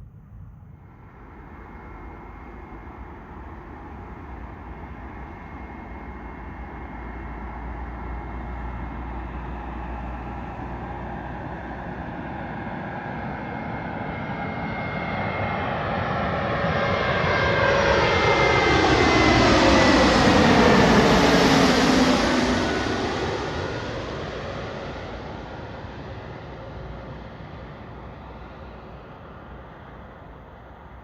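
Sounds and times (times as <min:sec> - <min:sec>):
jet airliner passing: 0:00.0 - 0:31.0
jet engine whine: 0:00.0 - 0:31.0.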